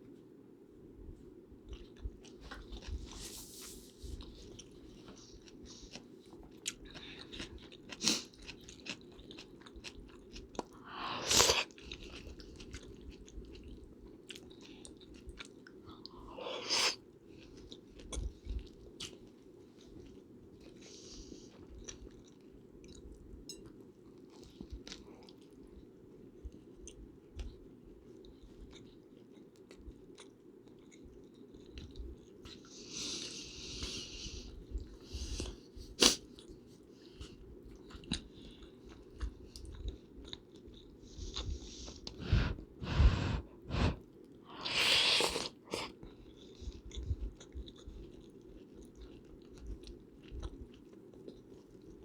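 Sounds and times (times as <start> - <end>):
chewing with mouth clicks: 1.6 - 3.4, 4.1 - 20.9, 21.5 - 52.0.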